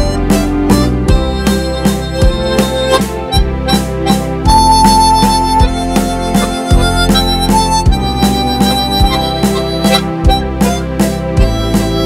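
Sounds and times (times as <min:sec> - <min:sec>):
backing accompaniment with beat: 0:00.0 - 0:12.0
harmonica playing a hymn: 0:00.0 - 0:12.0.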